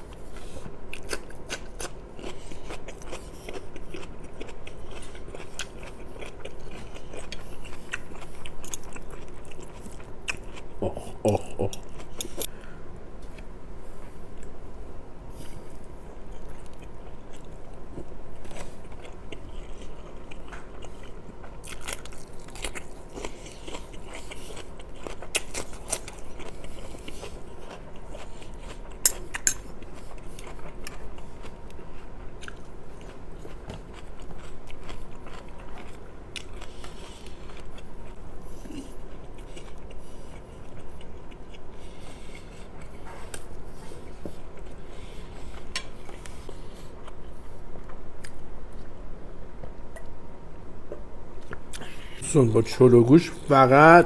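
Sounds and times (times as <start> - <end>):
person chewing food: 0.0 - 49.0, 50.8 - 52.2.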